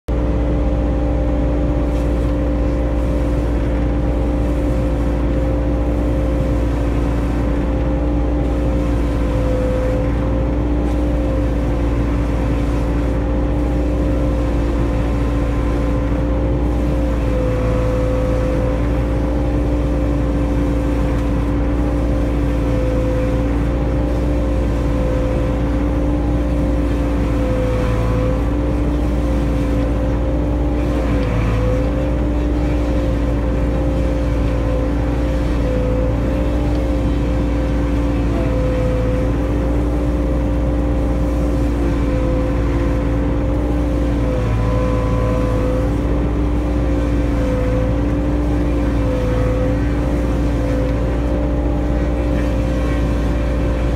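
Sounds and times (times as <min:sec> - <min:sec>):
excavator engine drone: 0:00.0 - 0:53.9.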